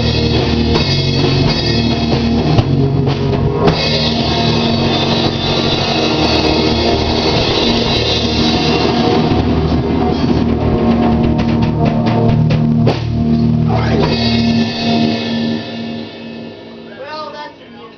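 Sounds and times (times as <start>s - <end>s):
drum hits: 0.0s - 17.2s
rock band playing: 0.0s - 17.9s.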